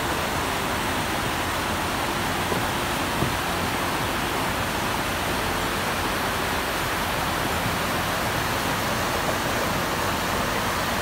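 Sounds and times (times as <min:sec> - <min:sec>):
river rushing: 0:00.0 - 0:11.0
waterfall: 0:00.0 - 0:11.0.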